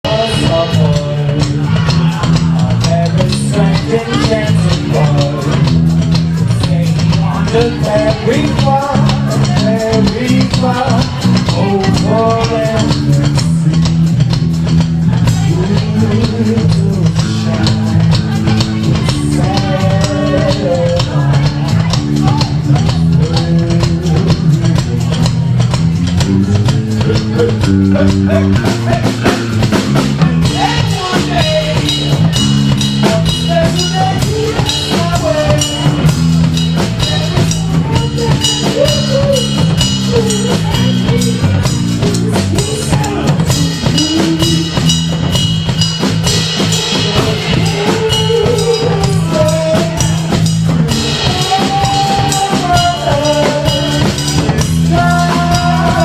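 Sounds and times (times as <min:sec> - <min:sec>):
drum kit: 0:00.0 - 0:56.0.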